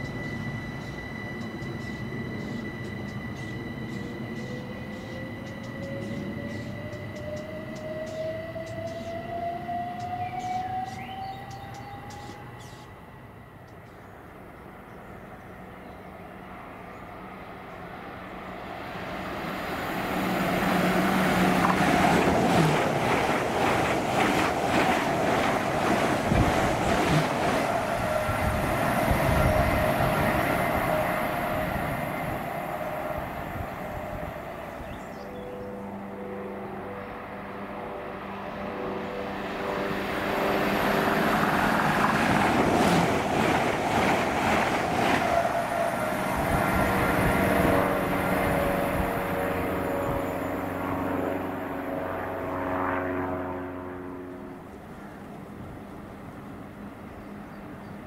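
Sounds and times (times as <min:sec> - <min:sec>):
train passing with clatter: 0:00.0 - 0:58.0.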